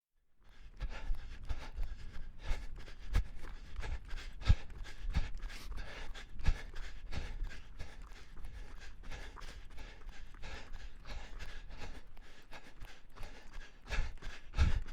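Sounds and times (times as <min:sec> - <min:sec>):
person panting hard: 0:00.5 - 0:14.9.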